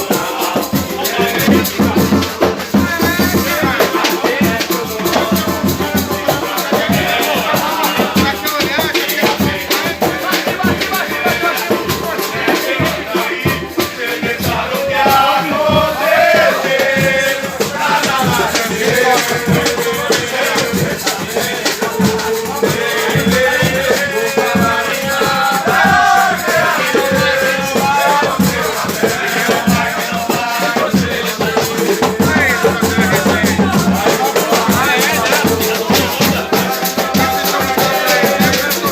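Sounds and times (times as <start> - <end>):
music with drum beat: 0.0 - 38.9
shaker rattle: 0.0 - 38.9.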